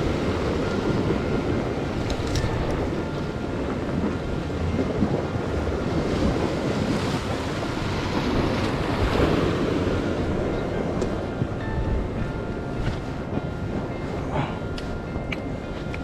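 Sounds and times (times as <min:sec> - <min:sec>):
surf washing against rocks: 0:00.0 - 0:16.0
wind rumbling on microphone: 0:00.0 - 0:16.0.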